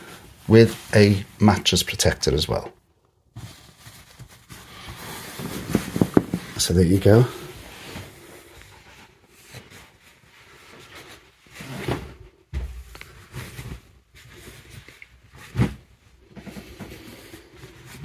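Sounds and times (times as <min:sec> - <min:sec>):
bedding rustling: 0:00.0 - 0:02.6, 0:03.3 - 0:18.0.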